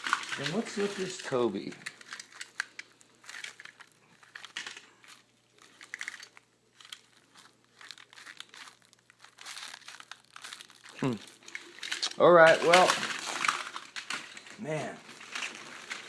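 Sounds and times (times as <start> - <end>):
packing material crinkling: 0.0 - 16.0.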